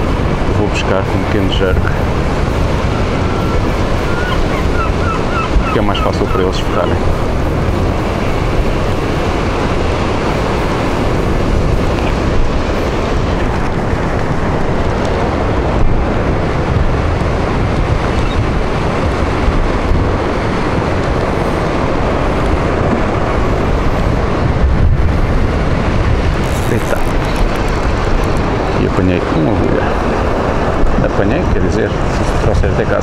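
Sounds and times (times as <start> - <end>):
sea waves breaking on rocks: 0.0 - 33.0
wind rumbling on microphone: 0.0 - 33.0.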